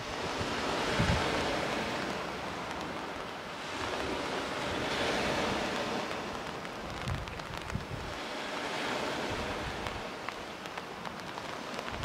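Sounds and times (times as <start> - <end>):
waves breaking on pebble beach: 0.0 - 12.0
wind buffeting microphone: 0.0 - 12.0.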